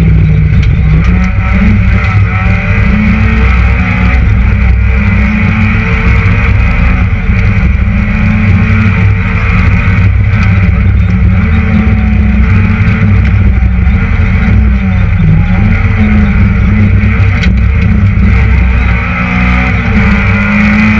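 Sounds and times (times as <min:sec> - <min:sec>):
car engine revving high: 0:00.0 - 0:20.9.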